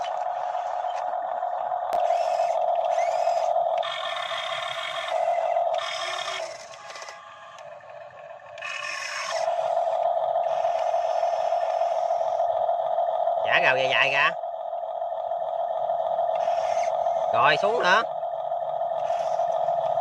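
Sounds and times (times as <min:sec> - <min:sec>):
model excavator motor whine: 0:00.0 - 0:20.0.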